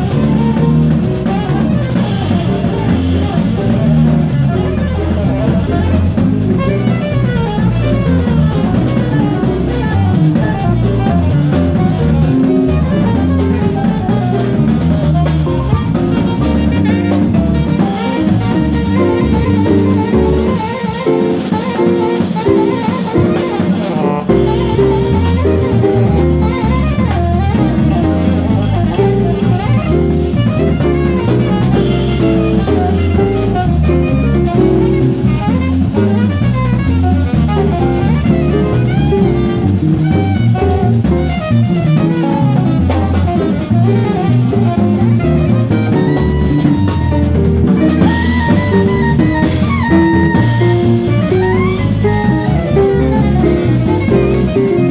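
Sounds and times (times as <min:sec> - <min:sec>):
bass playing low notes: 0:00.0 - 0:54.9
drum kit: 0:00.0 - 0:54.9
saxophone: 0:00.0 - 0:54.9.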